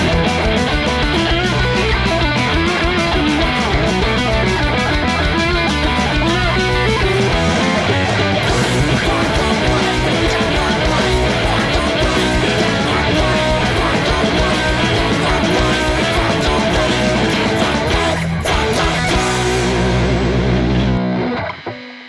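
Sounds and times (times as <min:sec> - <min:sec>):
loud rock music: 0:00.0 - 0:22.0.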